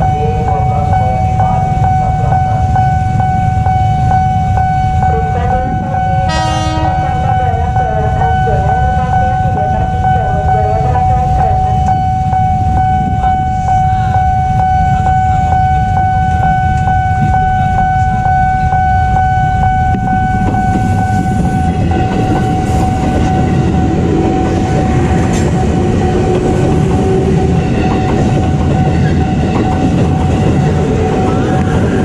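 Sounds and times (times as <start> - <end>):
electric train approaching: 0.0 - 32.0
level-crossing warning bell: 0.0 - 32.0
traffic rumble: 0.0 - 32.0.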